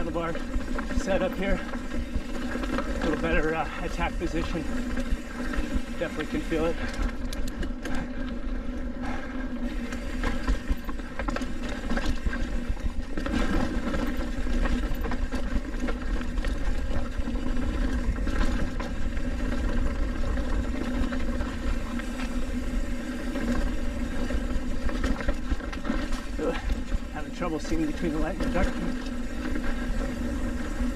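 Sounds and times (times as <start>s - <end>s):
bike rattling over rocks: 0.0s - 30.9s
bike tyres rumbling over dirt: 0.0s - 30.9s
bike whirring buzz: 0.0s - 30.9s.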